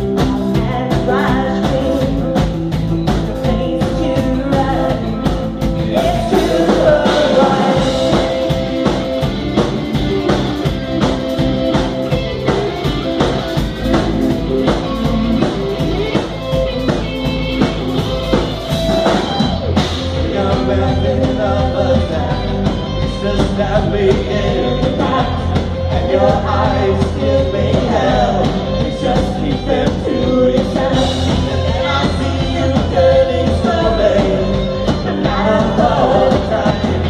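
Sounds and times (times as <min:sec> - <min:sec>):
person singing: 0:00.0 - 0:09.4, 0:10.0 - 0:37.0
bass guitar: 0:00.0 - 0:37.0
drum kit: 0:00.0 - 0:37.0
electric guitars: 0:00.0 - 0:37.0
sustained keyboard notes: 0:02.0 - 0:37.0.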